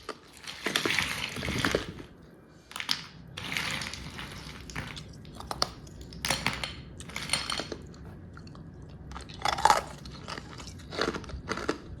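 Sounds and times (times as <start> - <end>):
ice being chewed: 0.0 - 6.3, 7.0 - 12.0.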